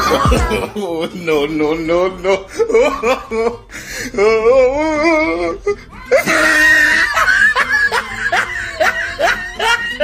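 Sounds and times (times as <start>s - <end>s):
person laughing hard: 0.0s - 4.4s, 5.1s - 10.0s.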